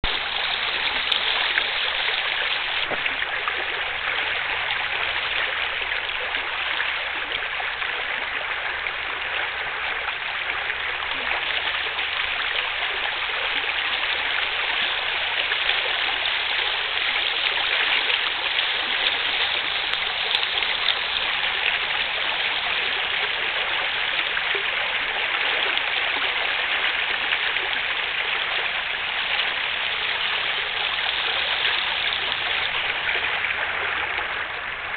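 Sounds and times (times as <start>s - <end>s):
water lapping and splashing: 0.0s - 34.9s.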